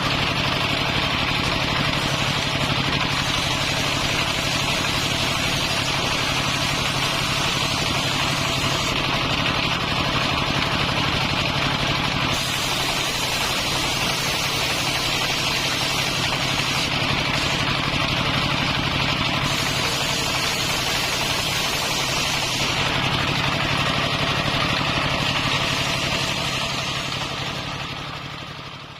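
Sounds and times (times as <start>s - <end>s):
circular saw running: 0.0s - 28.9s.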